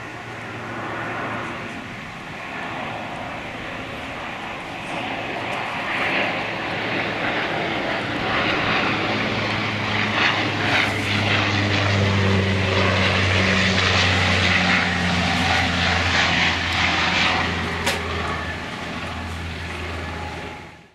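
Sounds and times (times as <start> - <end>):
turboprop aircraft flying overhead: 0.0 - 20.9.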